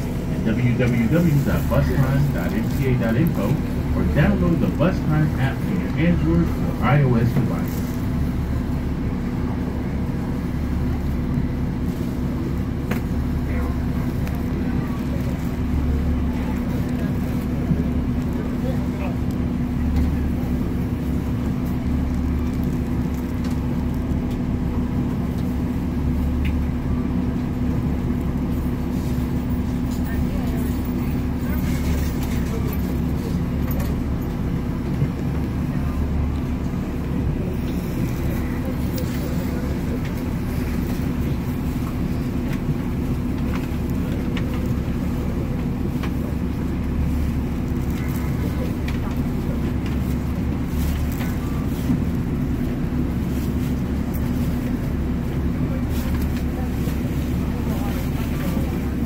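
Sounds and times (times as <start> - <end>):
bus engine and road rumble: 0.0 - 59.0
constant hum: 0.0 - 59.0.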